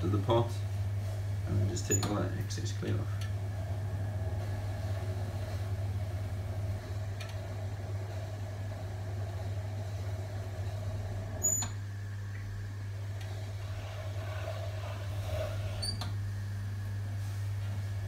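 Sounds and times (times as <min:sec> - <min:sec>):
potter's wheel motor hum: 0:00.0 - 0:18.0.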